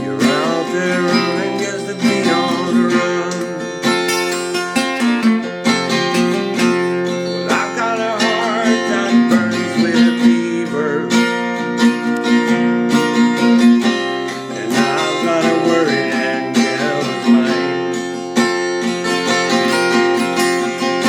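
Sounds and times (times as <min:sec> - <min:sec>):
acoustic guitar strummed and picked: 0:00.0 - 0:21.0.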